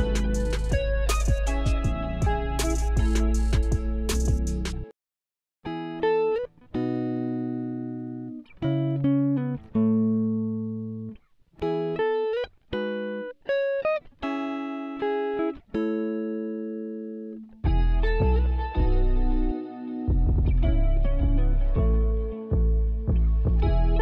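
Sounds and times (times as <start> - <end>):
plucked string melody: 0.0 - 4.9, 5.7 - 24.0.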